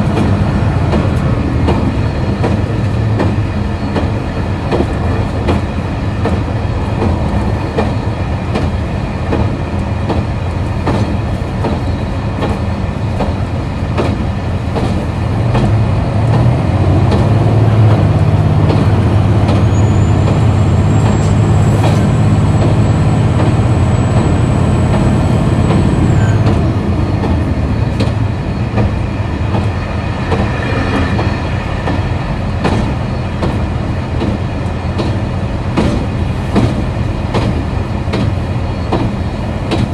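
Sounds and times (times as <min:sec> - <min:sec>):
train diesel engine running: 0:00.0 - 0:39.9
wheels clicking over rails: 0:00.0 - 0:39.9.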